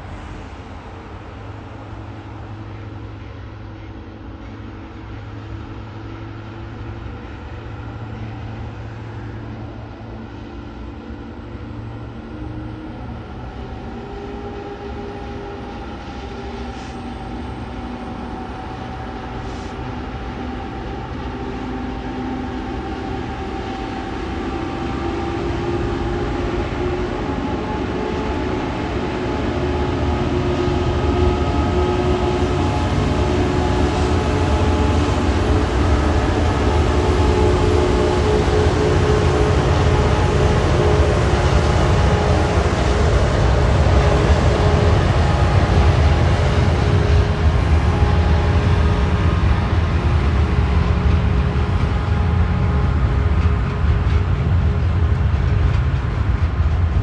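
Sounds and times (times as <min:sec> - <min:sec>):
diesel locomotive engines working: 0:00.0 - 0:57.0.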